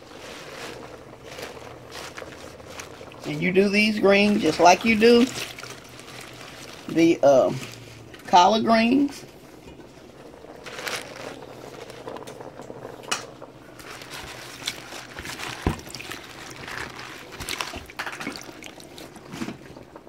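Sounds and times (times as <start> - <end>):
water splashing and dripping: 0.0 - 7.0, 9.6 - 20.0.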